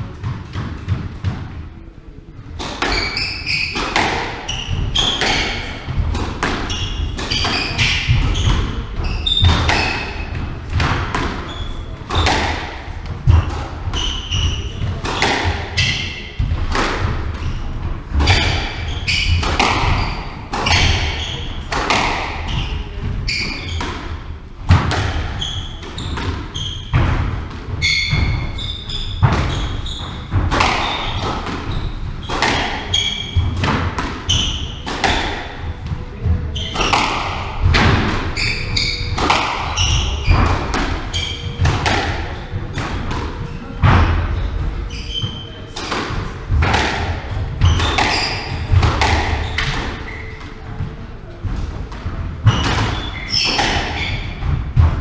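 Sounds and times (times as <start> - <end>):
squash ball thudding: 2.4 - 55.0
shoes squeaking on wooden floor: 2.6 - 24.4, 25.0 - 55.0.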